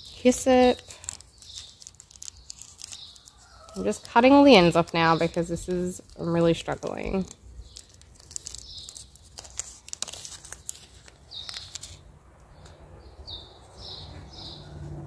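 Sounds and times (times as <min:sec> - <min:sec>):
paper packet crackling: 0:00.0 - 0:12.6
small bird chirping: 0:00.0 - 0:14.9.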